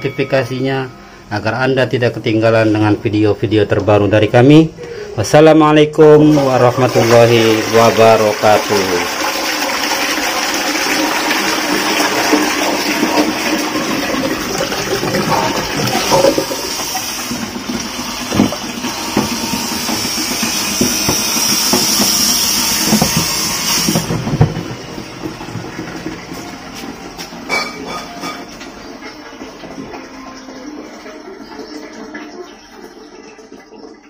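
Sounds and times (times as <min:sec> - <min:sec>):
toilet cistern flushing: 0:06.1 - 0:34.0.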